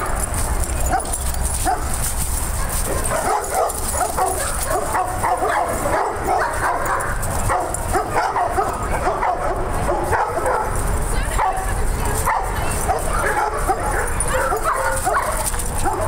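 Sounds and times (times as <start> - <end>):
dogs barking and yipping: 0.0 - 16.0.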